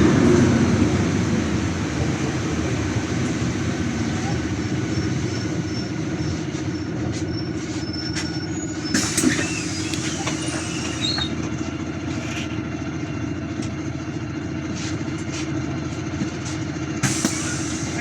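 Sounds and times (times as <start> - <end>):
bus engine running: 0.0 - 18.0
road noise: 0.0 - 18.0.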